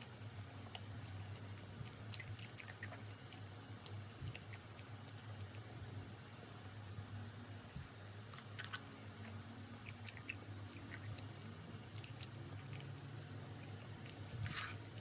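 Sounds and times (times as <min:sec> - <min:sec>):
low steady hum: 0:00.0 - 0:15.0
person chewing food: 0:00.4 - 0:06.6, 0:08.3 - 0:15.0.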